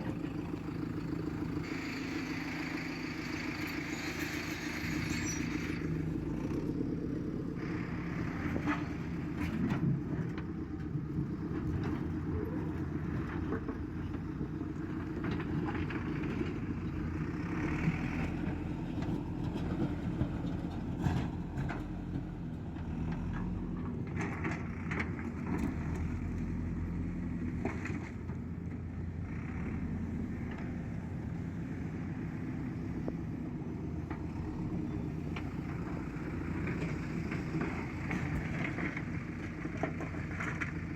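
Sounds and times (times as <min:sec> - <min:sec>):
diesel digger engine running: 0:00.0 - 0:40.9.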